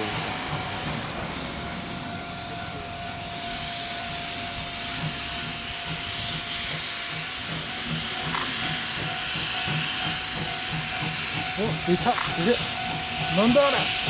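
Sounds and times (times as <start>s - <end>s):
locomotive exhaust chuffing: 0.0s - 14.0s
steam hissing: 0.0s - 14.0s.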